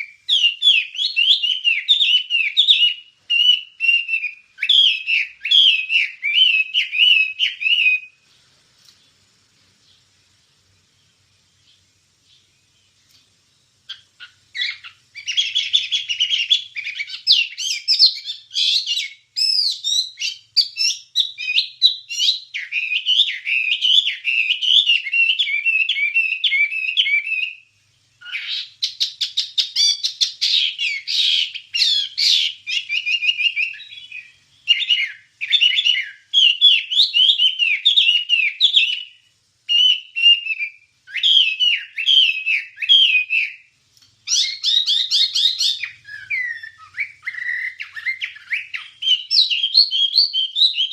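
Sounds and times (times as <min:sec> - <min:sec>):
bird singing: 0:00.0 - 0:50.9.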